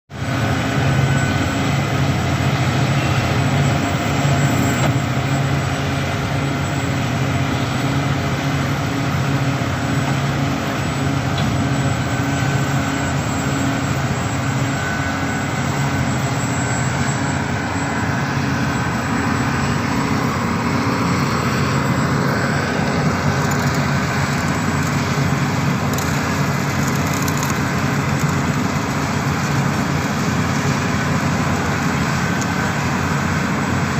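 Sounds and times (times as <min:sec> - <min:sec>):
heavy diesel machinery droning: 0:00.1 - 0:33.9.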